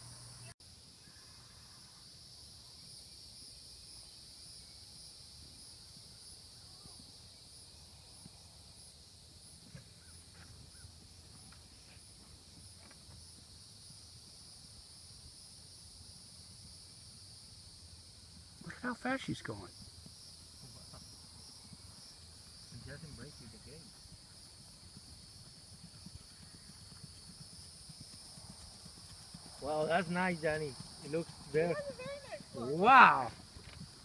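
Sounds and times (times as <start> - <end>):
insect buzz with pulsing chirp: 0.0 - 34.0.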